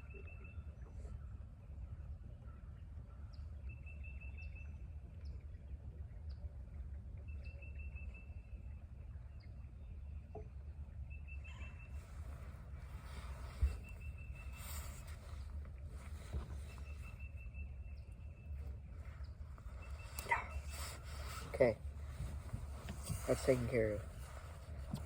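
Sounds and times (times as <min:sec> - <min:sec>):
bird singing: 0:00.0 - 0:25.0.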